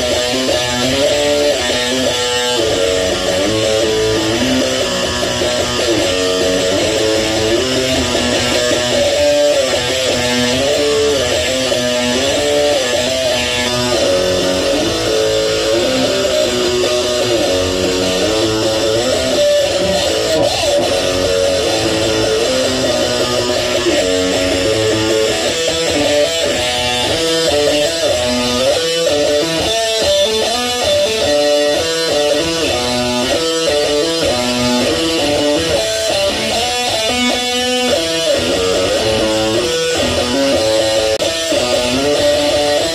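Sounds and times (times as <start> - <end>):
electric guitar riff: 0.0 - 42.9.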